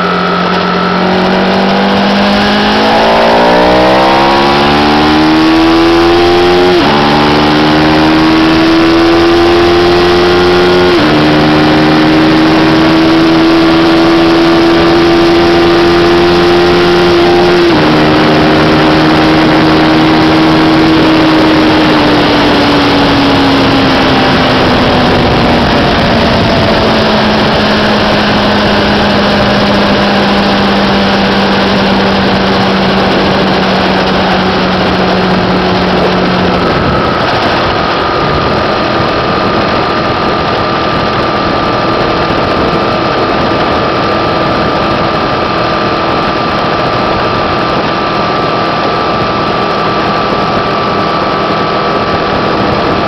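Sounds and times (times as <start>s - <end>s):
motorcycle engine: 0.0s - 53.0s
steady high whine: 0.0s - 53.0s
wind rush over microphone: 0.0s - 53.0s.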